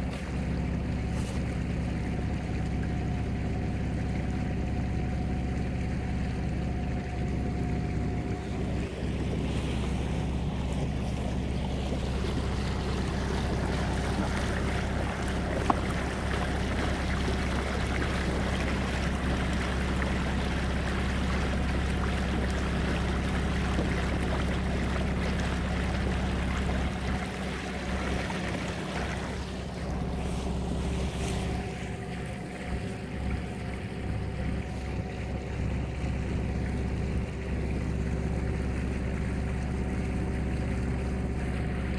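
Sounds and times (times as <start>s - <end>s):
water splashing along boat hull: 0.0s - 41.9s.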